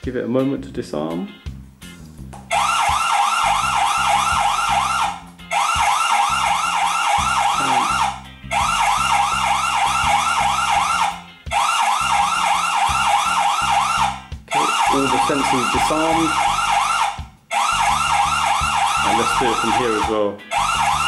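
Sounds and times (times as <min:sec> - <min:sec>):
alarm siren whooping: 0:02.5 - 0:21.0.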